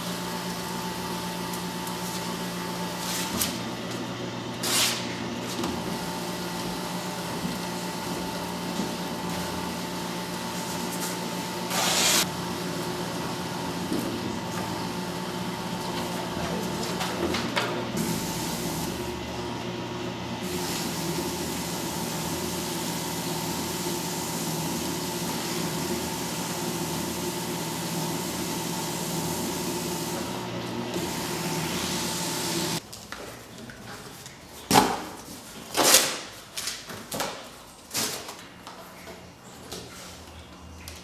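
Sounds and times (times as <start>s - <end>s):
paper shredder running: 0.0s - 32.8s.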